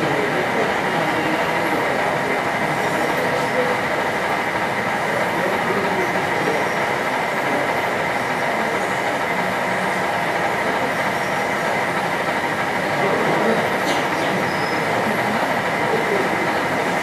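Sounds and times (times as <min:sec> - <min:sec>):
model train wheels rolling: 0:00.0 - 0:17.0.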